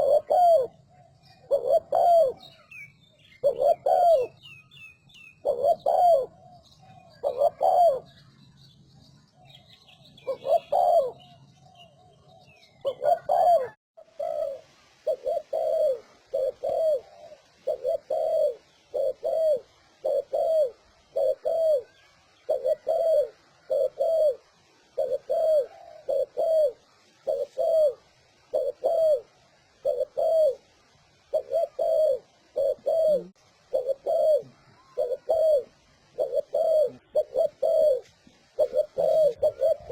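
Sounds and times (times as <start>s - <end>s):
dove cooing: 0.0s - 8.3s, 9.5s - 39.9s.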